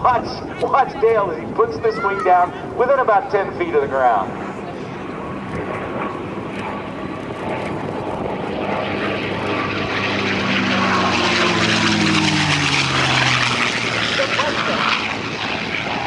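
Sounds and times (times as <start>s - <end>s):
propeller plane engine fly-by: 0.0s - 16.0s.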